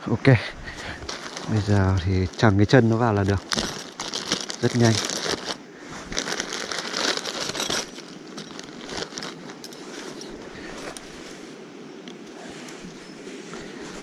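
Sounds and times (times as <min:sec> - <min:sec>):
tent fabric rustling: 0:00.6 - 0:14.0.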